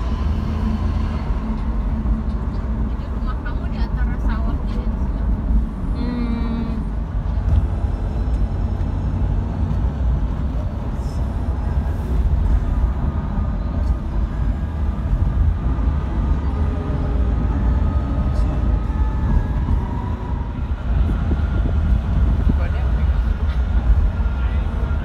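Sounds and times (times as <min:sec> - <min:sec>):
road rumble and engine noise: 0:00.0 - 0:25.0.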